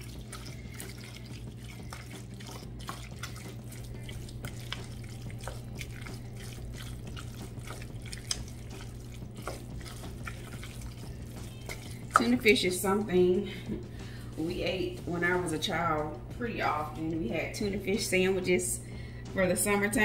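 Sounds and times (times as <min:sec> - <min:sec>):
wet squishing of stirring: 0:00.0 - 0:18.3
low hum: 0:00.0 - 0:20.0.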